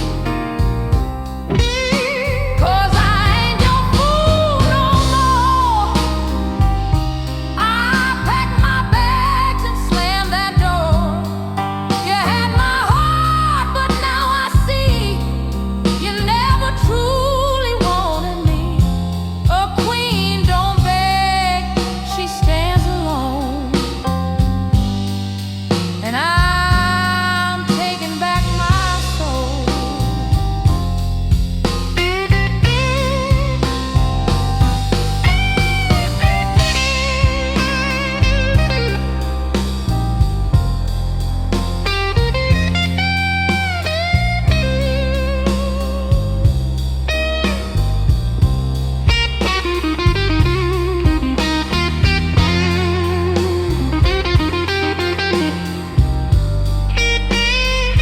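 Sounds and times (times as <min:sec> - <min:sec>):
bass line: 0:00.0 - 0:58.0
blues lead guitar: 0:00.0 - 0:58.0.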